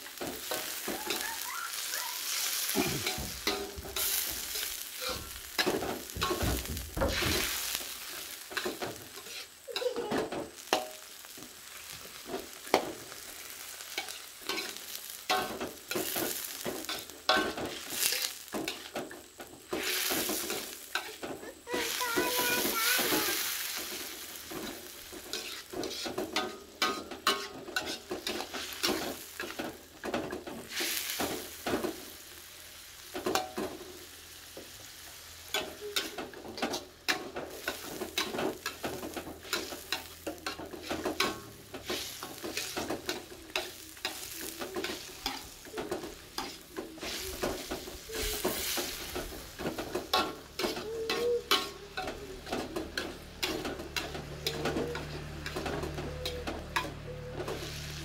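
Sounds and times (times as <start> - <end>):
oil sizzling in a wok: 0.0 - 58.0
metal spatula scraping a wok: 2.3 - 32.0, 35.1 - 58.0.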